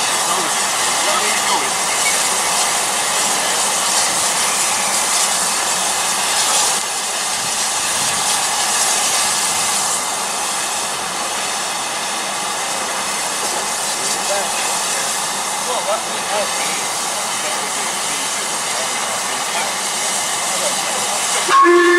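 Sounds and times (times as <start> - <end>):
steam locomotive hissing steam: 0.0 - 21.9.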